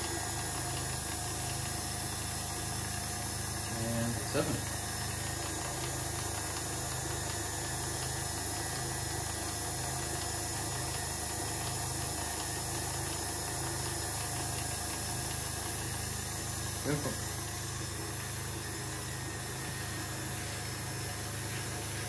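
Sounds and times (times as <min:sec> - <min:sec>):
stand mixer motor whirring: 0:00.0 - 0:22.0.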